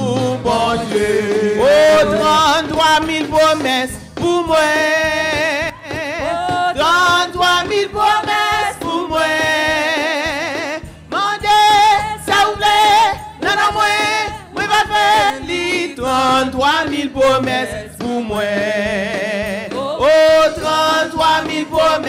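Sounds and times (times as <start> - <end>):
person singing gospel: 0.0 - 22.0.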